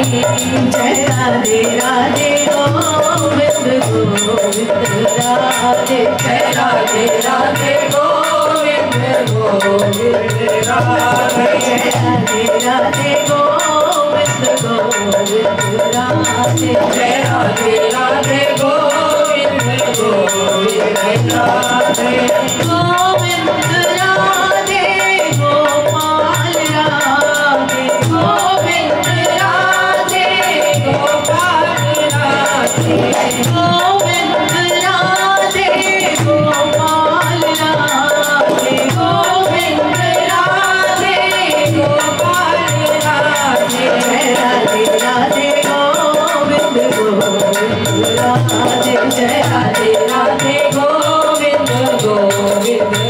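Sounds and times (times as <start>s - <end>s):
rattling hand percussion: 0.0s - 53.0s
woman singing: 0.0s - 53.0s.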